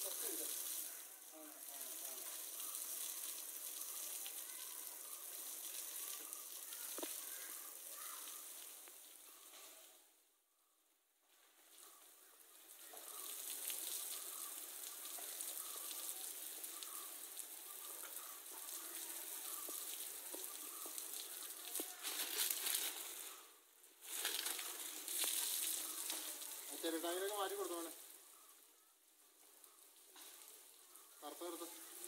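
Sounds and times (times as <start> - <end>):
water spraying and spattering: 0.0 - 10.0, 11.4 - 32.0.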